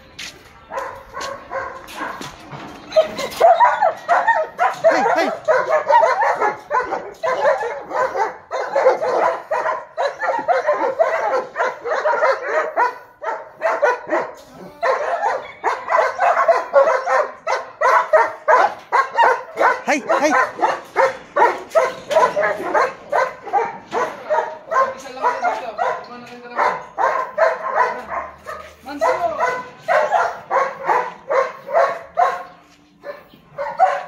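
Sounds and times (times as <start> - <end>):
dogs barking and yelping: 0.6 - 34.0.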